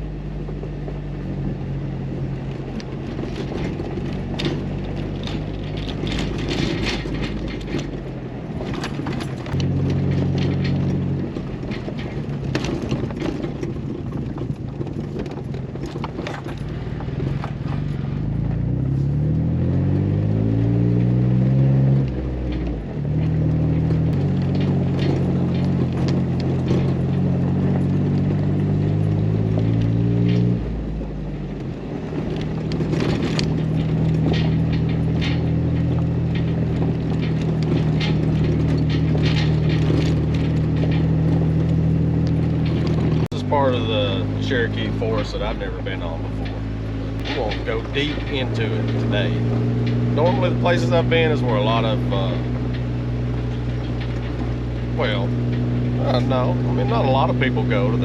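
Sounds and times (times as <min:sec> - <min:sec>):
car engine pulling: 0:00.0 - 0:58.0
gravel crunches and rattles: 0:00.0 - 0:58.0.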